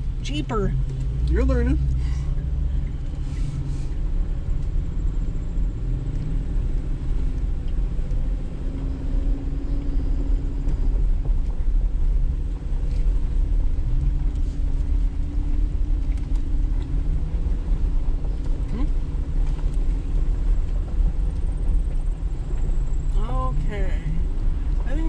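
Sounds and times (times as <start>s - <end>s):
vehicle engine and tyres rumbling: 0.0s - 25.0s.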